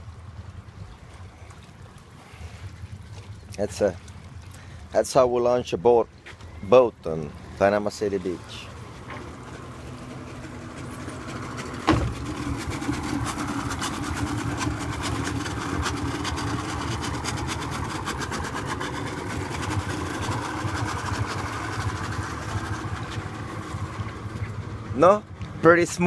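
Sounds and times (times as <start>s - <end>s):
outboard motor running: 0.0s - 5.2s, 6.1s - 26.0s.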